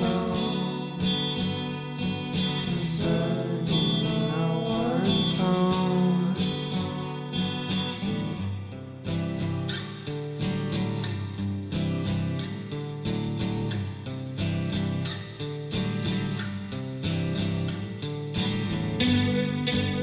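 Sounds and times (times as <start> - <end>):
music with strummed guitar: 0.0 - 20.0.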